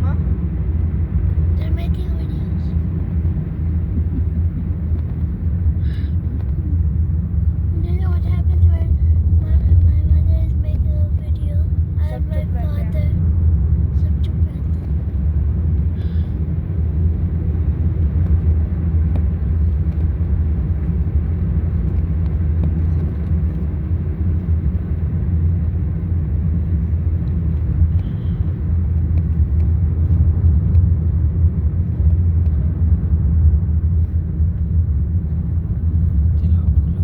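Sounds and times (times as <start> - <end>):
car engine and road noise inside cabin: 0.0 - 37.0.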